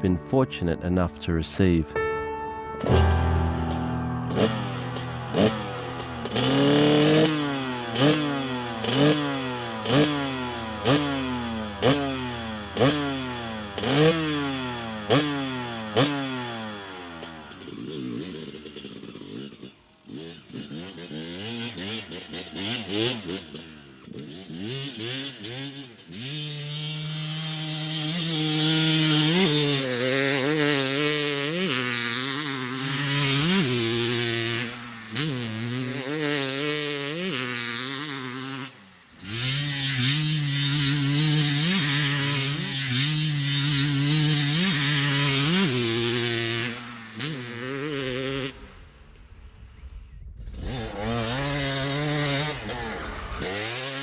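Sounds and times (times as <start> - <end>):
dirt bike engine revving: 2.8 - 54.0.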